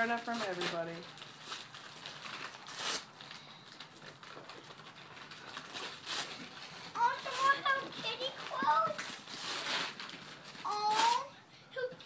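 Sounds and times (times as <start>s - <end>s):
wrapping paper rustling and tearing: 0.0s - 11.3s.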